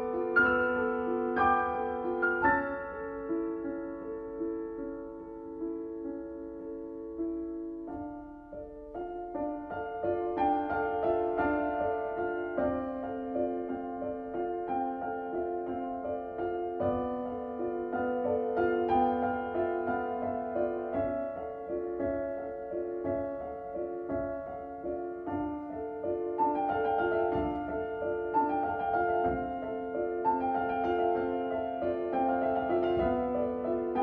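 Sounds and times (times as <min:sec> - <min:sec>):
slow piano music: 0:00.0 - 0:34.0.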